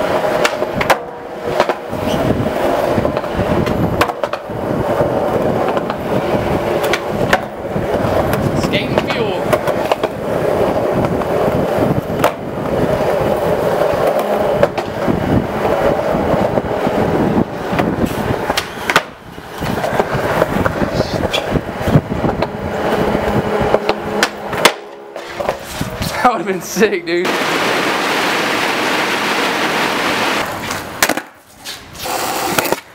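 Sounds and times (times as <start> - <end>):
skateboard clacking: 0.0 - 32.9
skateboard wheels rolling on concrete: 0.0 - 32.9.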